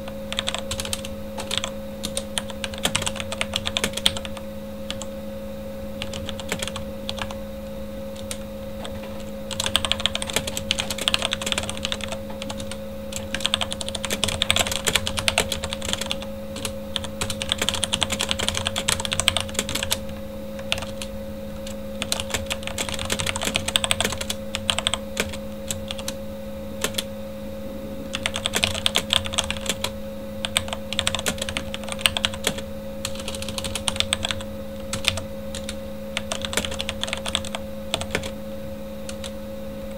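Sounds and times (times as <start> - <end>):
computer fan hum: 0.0 - 39.9.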